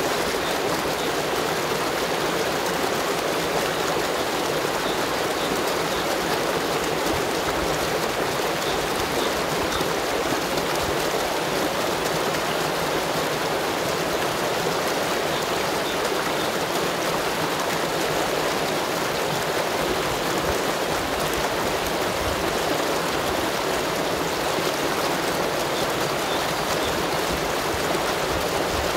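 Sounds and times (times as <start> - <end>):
stream water rushing: 0.0 - 28.9.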